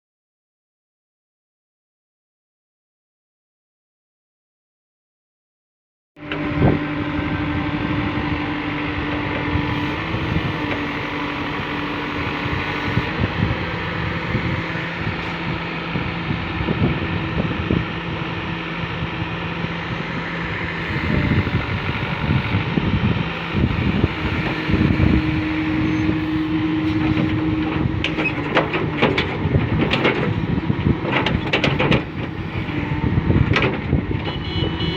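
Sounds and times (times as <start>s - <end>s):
diesel engine droning under load: 6.2s - 34.9s.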